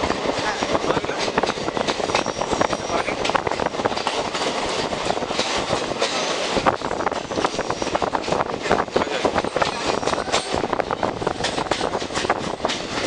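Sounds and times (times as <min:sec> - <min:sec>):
train rumble: 0:00.0 - 0:13.0
wheels clattering over rail joints: 0:00.0 - 0:13.0.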